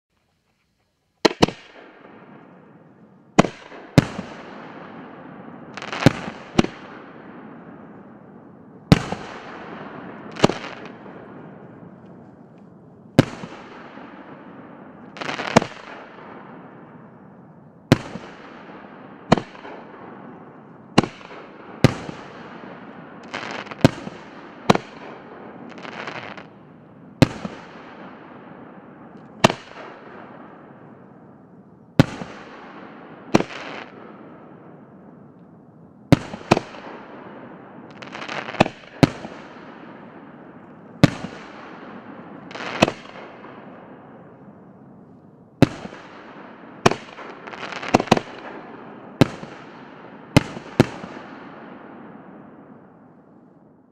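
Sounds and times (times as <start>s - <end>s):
fireworks bangs: 1.2s - 53.9s.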